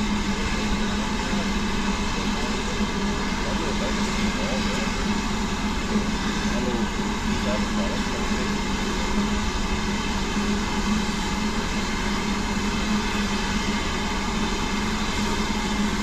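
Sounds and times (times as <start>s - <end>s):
low hum: 0.0s - 16.0s
steam hissing: 0.0s - 16.0s.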